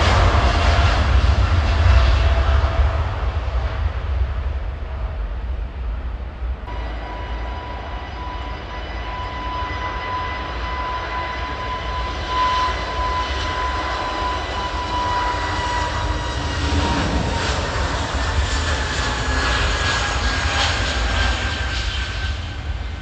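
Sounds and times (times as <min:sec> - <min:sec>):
jet engines whining and rumbling: 0:00.0 - 0:23.0.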